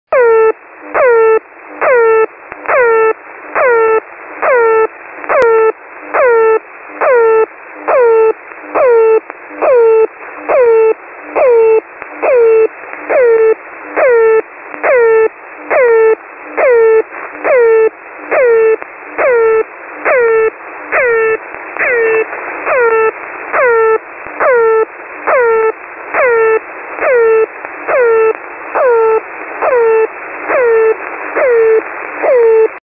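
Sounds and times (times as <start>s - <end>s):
radio static: 0.1s - 32.8s.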